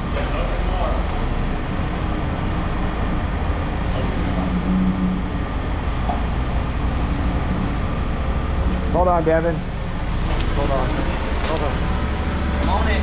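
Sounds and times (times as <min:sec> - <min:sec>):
heavy machinery engine rumbling: 0:00.0 - 0:13.0.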